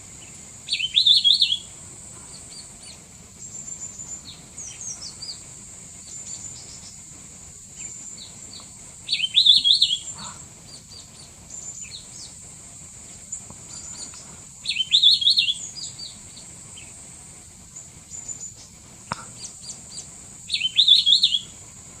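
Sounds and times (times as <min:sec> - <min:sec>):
bird singing warbled phrases: 0:00.2 - 0:07.0, 0:07.8 - 0:12.4, 0:13.7 - 0:17.0, 0:18.1 - 0:21.6
faint high bird chirps: 0:00.2 - 0:07.0, 0:07.7 - 0:12.4, 0:13.1 - 0:17.0, 0:17.8 - 0:21.6.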